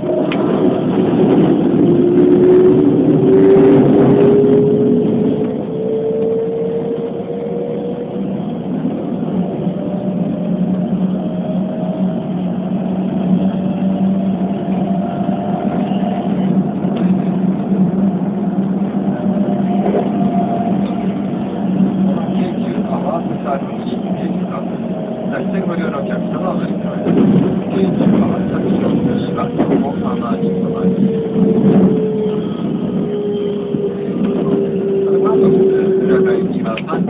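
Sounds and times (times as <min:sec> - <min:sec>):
train running rumble and hum: 0:00.0 - 0:37.0.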